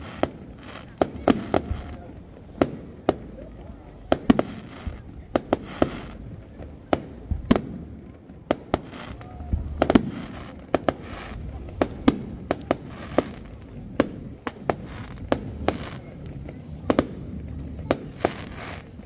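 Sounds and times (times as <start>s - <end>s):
crackling hiss: 0.0s - 19.0s
firework bangs: 0.0s - 19.0s.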